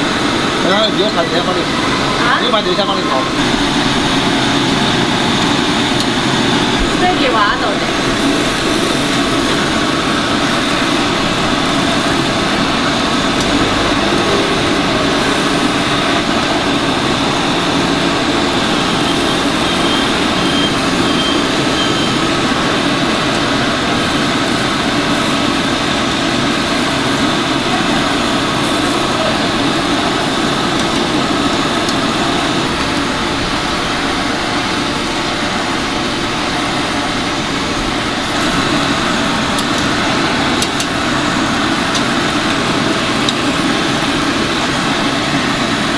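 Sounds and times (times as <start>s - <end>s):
loud mechanical drone: 0.0s - 45.9s.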